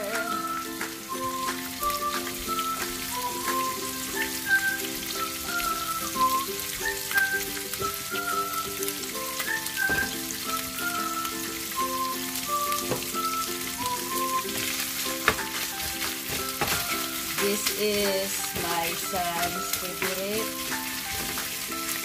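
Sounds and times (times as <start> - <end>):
background music: 0.0 - 22.0
bacon sizzling in a frying pan: 0.0 - 22.0.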